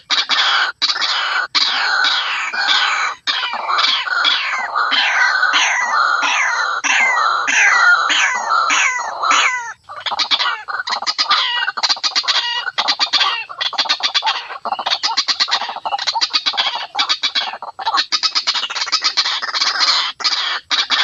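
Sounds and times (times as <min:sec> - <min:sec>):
harsh clucking bird notes: 0:00.0 - 0:21.0
waterhen calling: 0:00.0 - 0:21.0.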